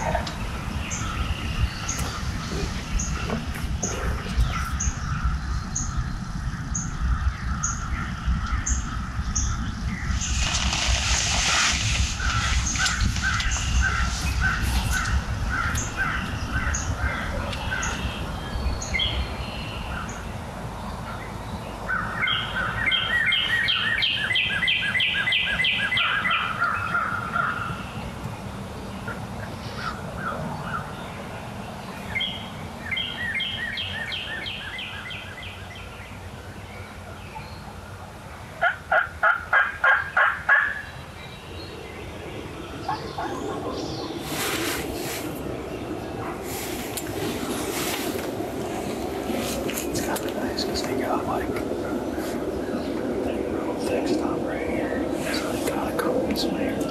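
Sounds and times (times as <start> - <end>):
birds calling: 0.0 - 56.9.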